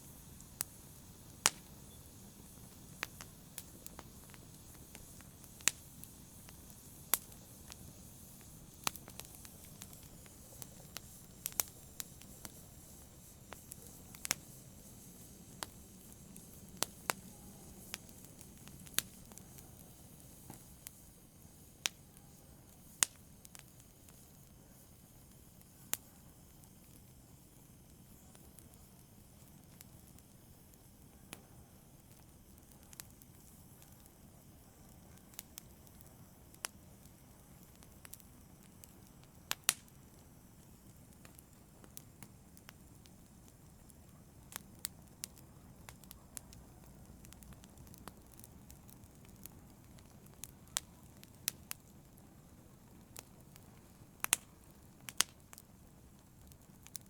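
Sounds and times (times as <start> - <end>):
fire crackling and popping: 0.0 - 57.0
wood fire hissing: 0.0 - 57.0.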